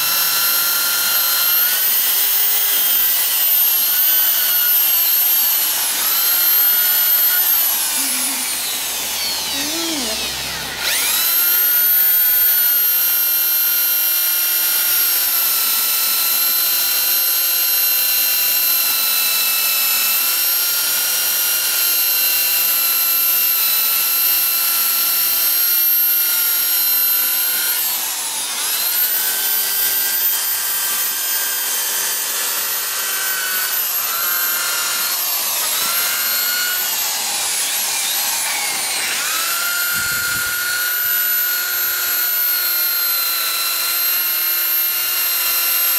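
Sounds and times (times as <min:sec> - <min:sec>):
power tool motor whining: 0:00.0 - 0:45.9.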